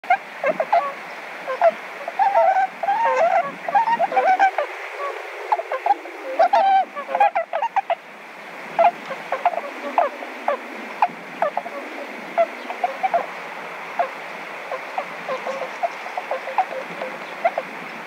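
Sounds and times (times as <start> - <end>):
swans calling: 0.0 - 18.0.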